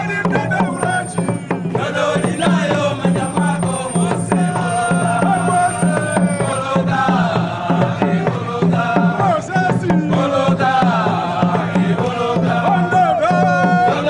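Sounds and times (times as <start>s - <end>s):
men singing together: 0.0s - 14.0s.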